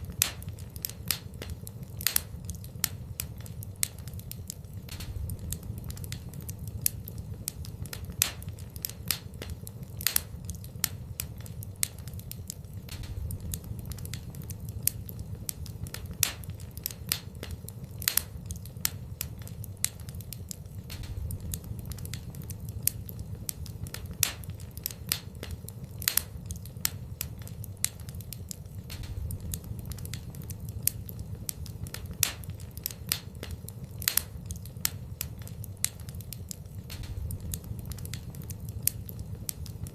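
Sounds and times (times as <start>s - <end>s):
low sound of flames: 0.0s - 39.9s
wood fire crackling and popping: 0.0s - 39.9s.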